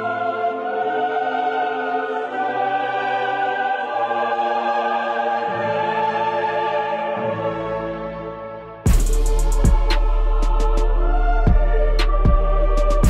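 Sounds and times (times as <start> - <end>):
slow sustained music chords: 0.0 - 13.0.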